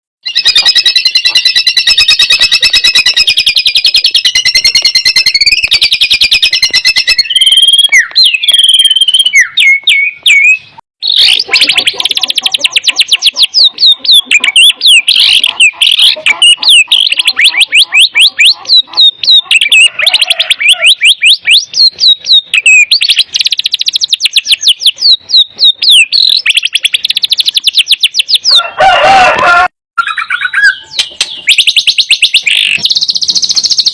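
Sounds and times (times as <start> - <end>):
bird singing trills and whistles: 0.2 - 28.7, 30.0 - 33.9.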